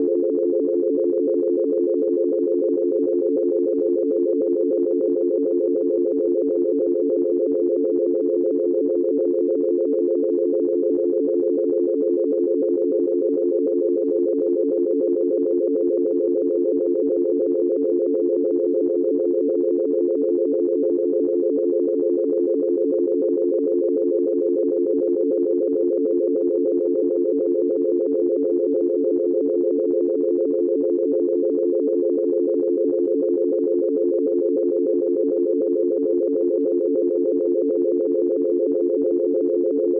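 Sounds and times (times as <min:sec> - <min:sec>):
wobbling low dial tone: 0:00.0 - 0:39.9.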